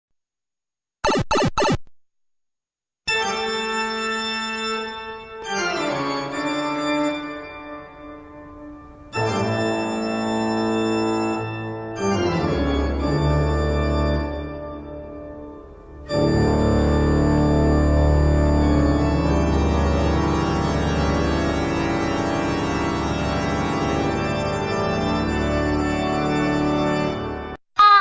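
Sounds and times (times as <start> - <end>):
organ chords: 3.1 - 27.6.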